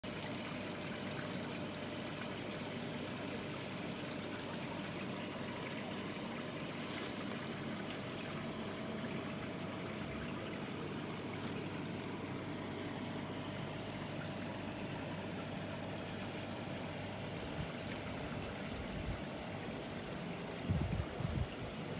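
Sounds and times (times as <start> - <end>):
faint steady hum: 0.0 - 21.9
running and trickling water: 0.0 - 21.9.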